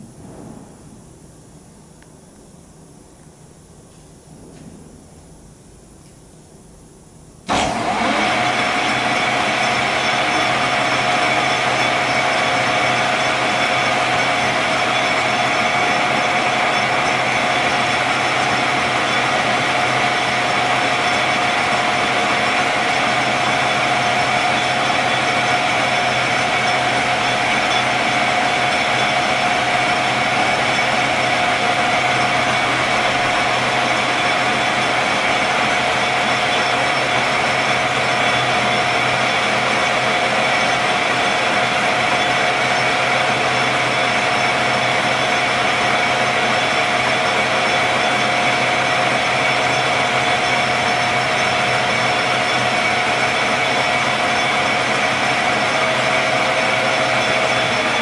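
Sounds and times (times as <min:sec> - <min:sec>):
lathe running with whine: 0:07.5 - 0:58.0.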